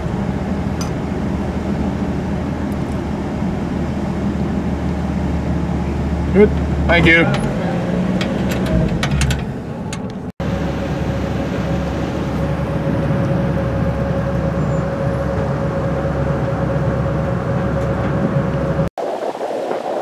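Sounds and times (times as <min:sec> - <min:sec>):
vehicle engine droning: 0:00.0 - 0:18.9.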